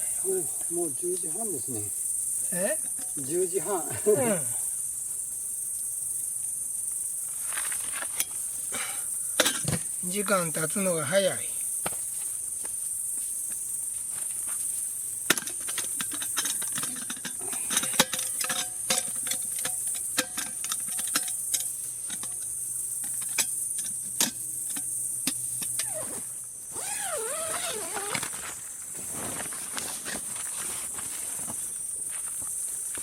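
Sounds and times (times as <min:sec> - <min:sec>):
night insects chirring: 0:00.0 - 0:33.0.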